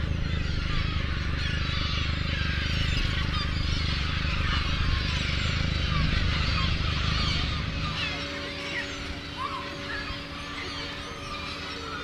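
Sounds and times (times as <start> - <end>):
boat engine humming: 0.0 - 12.0
gulls calling: 0.0 - 12.0.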